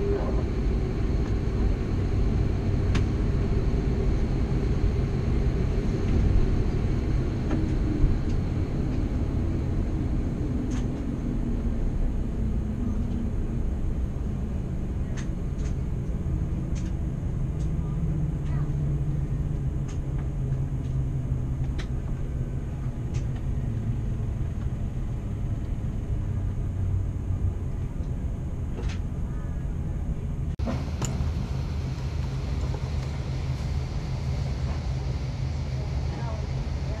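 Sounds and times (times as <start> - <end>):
aircraft cabin rumble: 0.0 - 37.0
engine hum falling in pitch: 0.0 - 37.0.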